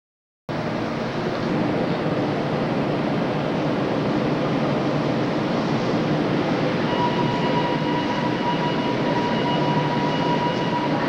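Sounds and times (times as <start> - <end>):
subway train rumbling: 0.5 - 11.0.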